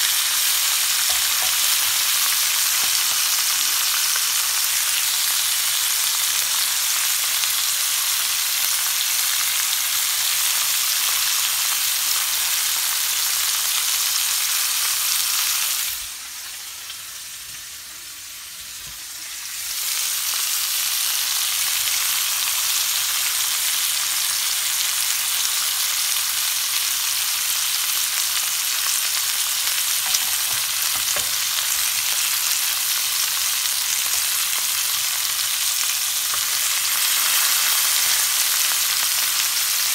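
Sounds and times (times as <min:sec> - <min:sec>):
pork chops sizzling: 0:00.0 - 0:39.9.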